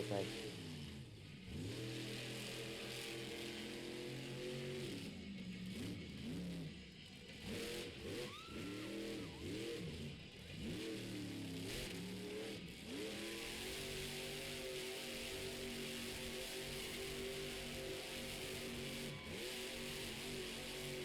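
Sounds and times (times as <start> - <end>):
truck engine revving: 0.0 - 6.8, 8.8 - 21.0.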